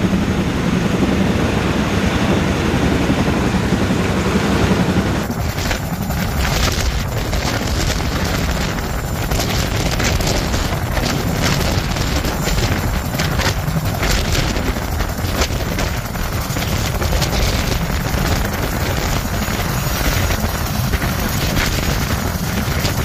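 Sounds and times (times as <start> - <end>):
helicopter rotors rumbling: 0.0 - 23.0
wind buffeting microphone: 0.0 - 23.0.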